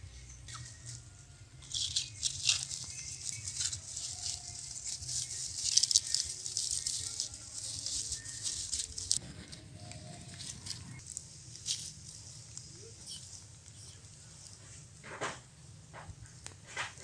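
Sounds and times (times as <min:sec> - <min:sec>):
dry straw crackling and rustling: 0:00.0 - 0:17.0.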